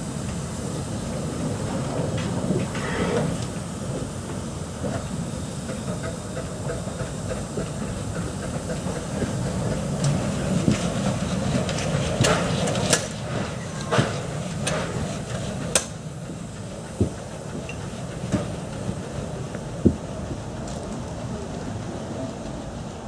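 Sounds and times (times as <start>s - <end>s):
hiss of steam: 0.0s - 23.0s
steam train rumble: 0.0s - 23.0s.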